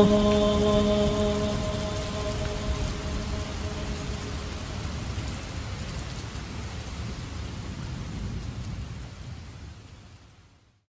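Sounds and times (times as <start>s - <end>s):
steady rain: 0.0s - 10.9s.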